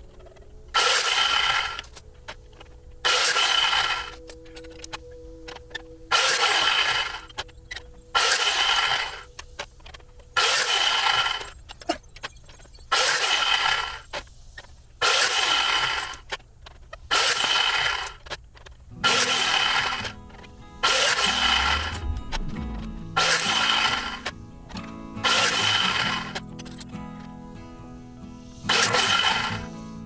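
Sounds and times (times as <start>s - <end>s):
power tool cutting metal: 0.2s - 12.0s, 12.9s - 14.3s, 15.0s - 27.0s, 28.6s - 29.8s.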